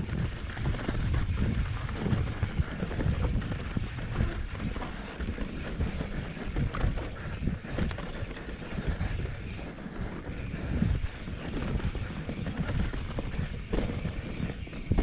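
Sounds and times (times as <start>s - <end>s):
bike knocking and rattling: 0.0s - 15.0s
tyres rumbling over dirt: 0.0s - 15.0s
wind buffeting microphone: 0.0s - 15.0s.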